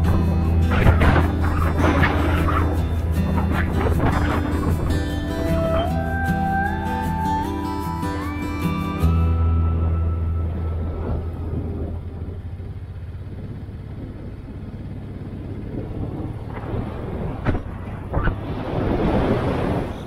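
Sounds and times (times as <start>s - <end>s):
motorcycle engine running: 0.0s - 19.2s
wind rushing over microphone: 0.0s - 20.0s.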